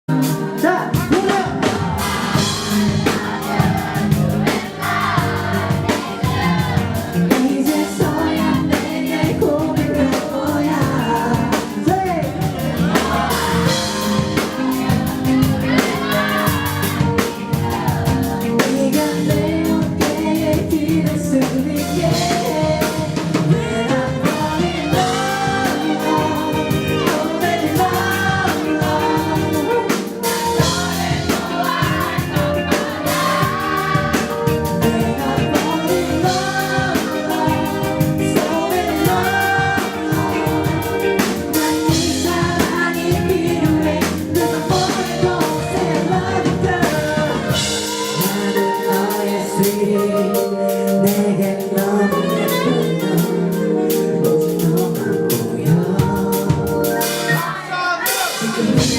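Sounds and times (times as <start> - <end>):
band playing live: 0.1 - 58.9
person singing: 0.1 - 58.9.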